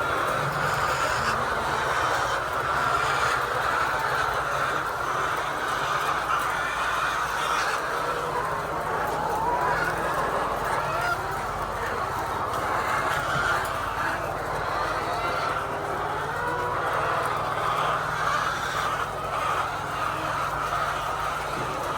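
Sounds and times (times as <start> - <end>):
hens clucking: 0.0 - 21.9.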